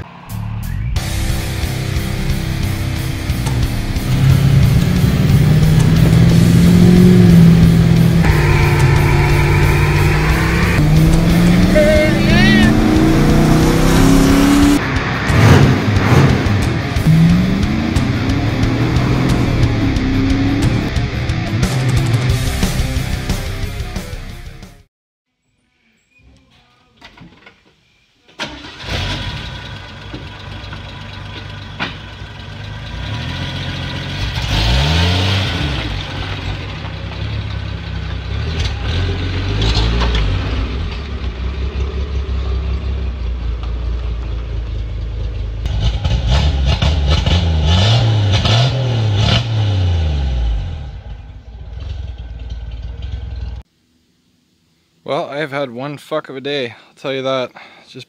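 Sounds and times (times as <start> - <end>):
truck engine idling and revving: 0.0 - 24.6, 28.5 - 53.7.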